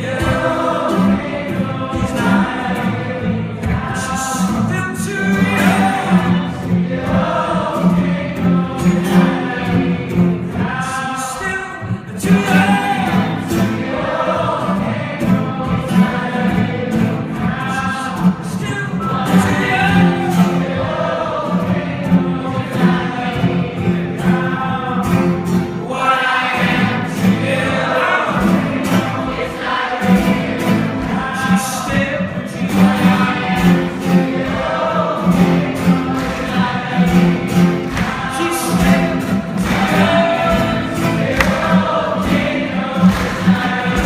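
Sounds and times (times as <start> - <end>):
live singing with instruments: 0.0 - 44.0.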